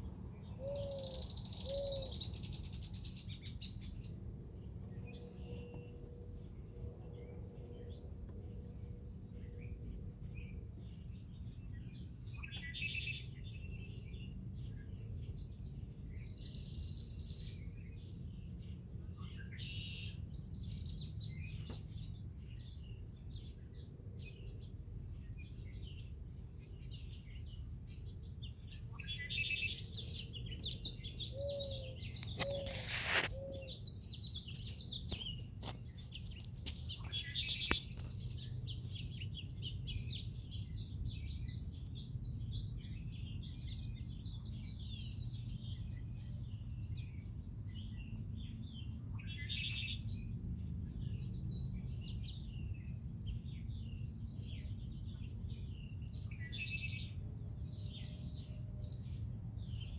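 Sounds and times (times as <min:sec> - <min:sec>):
blackbirds singing buzzy trills: 0:00.0 - 0:59.9.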